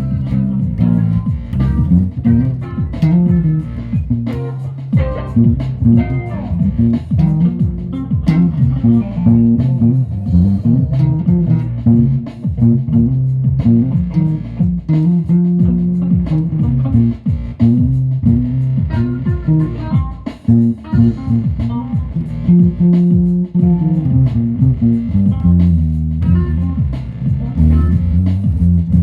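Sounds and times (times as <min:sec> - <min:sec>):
guitar music: 0:00.0 - 0:29.0
sliding bass guitar notes: 0:00.0 - 0:29.0.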